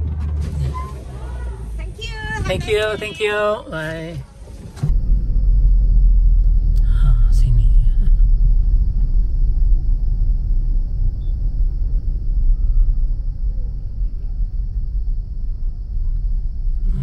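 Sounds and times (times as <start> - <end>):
car rumbling from inside: 0.0 - 17.0.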